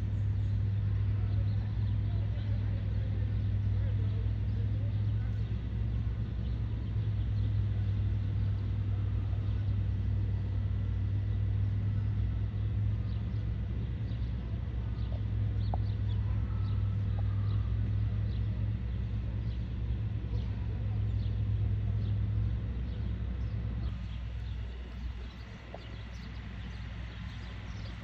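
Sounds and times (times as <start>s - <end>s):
city traffic: 0.0s - 28.0s
vehicle engine rumbling: 0.0s - 28.0s
small birds chirping: 0.1s - 28.0s.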